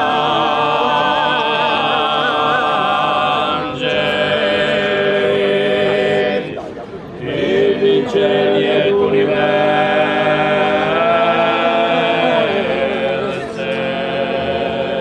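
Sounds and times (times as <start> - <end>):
choir singing in close harmony: 0.0 - 15.0.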